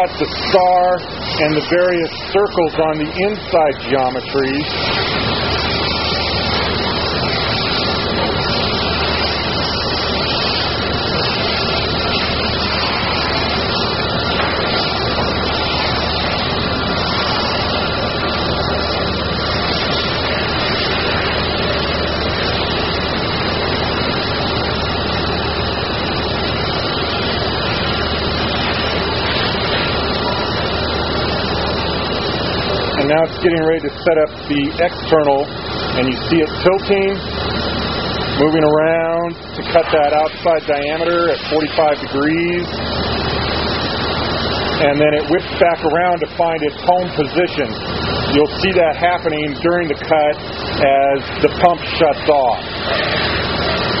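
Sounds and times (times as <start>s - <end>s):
waterjet cutter rushing noise: 0.0s - 54.0s.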